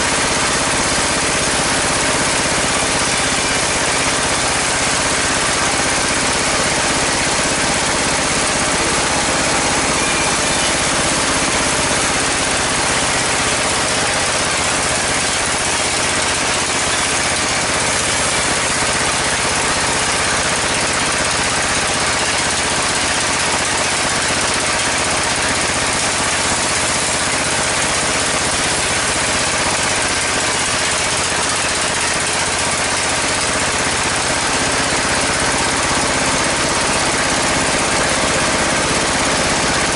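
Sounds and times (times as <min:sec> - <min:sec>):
band saw and engine droning: 0:00.0 - 0:39.9.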